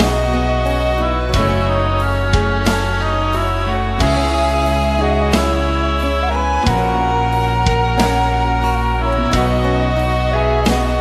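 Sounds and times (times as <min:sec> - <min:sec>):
slow soft instrumental chords: 0:00.0 - 0:11.0.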